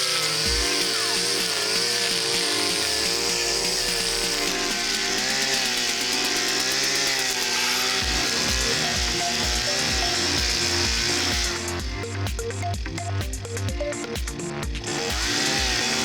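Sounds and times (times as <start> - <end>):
background music with steady beat: 0.0 - 16.0
brush cutter engine at high revs: 0.0 - 16.0.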